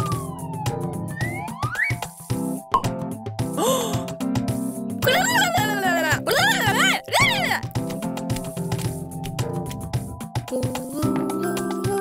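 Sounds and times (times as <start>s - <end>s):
children's cartoon music: 0.0s - 12.0s.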